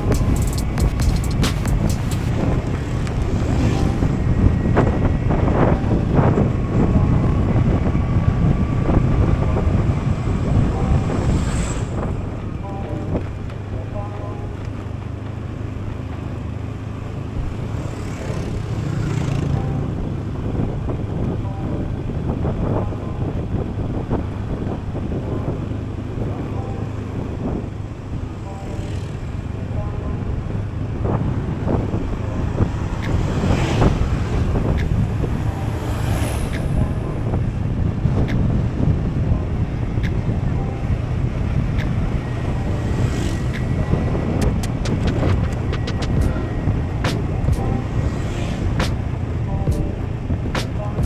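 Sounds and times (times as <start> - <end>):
road and wind noise: 0.0 - 51.0
scooter engine running: 0.0 - 51.0.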